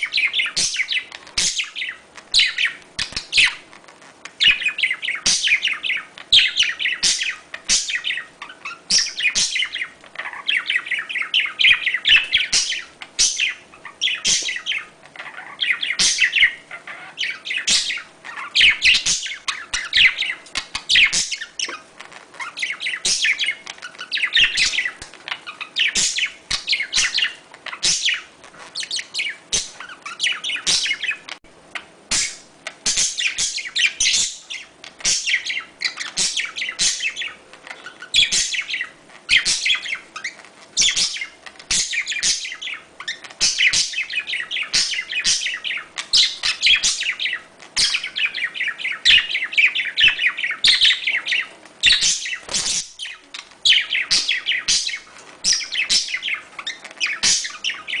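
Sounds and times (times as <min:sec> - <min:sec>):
budgerigars chattering: 0:00.0 - 0:03.6, 0:04.4 - 0:58.0.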